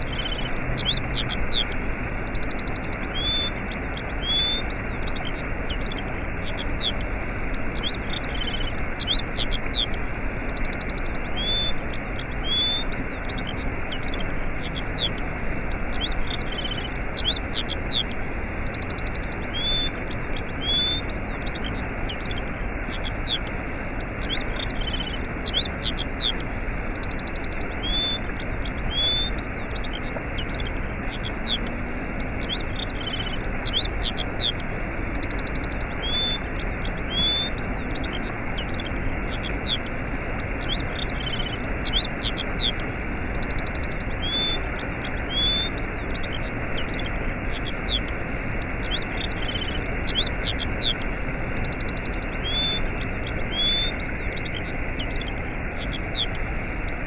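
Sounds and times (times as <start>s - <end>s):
songbirds chirping and whistling: 0.0s - 57.0s
waterfall rushing: 0.0s - 57.0s.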